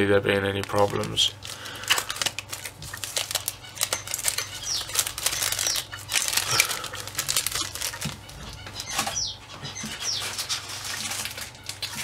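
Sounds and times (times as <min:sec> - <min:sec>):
plastic bags crinkling: 0:00.0 - 0:09.2, 0:09.8 - 0:12.0.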